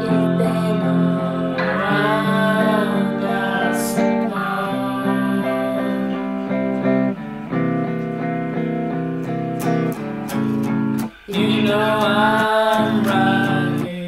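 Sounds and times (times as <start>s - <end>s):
held chords: 0.0s - 14.0s
plucked string song: 0.0s - 14.0s.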